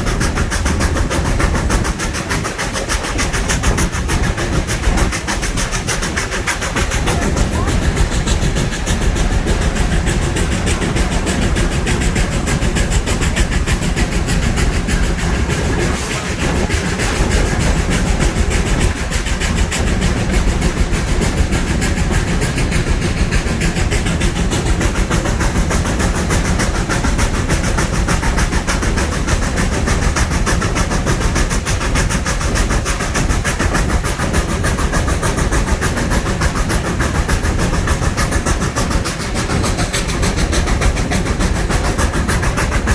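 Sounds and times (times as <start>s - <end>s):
steam train rumbling: 0.0s - 42.9s
wheels clattering on rail: 0.0s - 42.9s.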